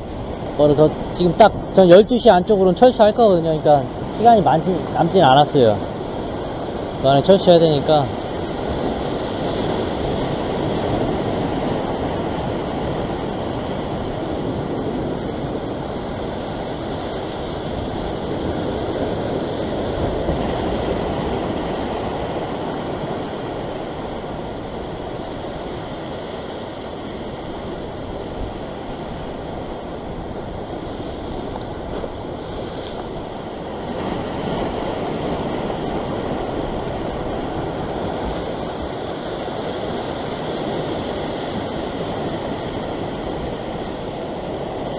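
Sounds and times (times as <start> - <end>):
surf breaking over rocks: 0.1 - 44.9.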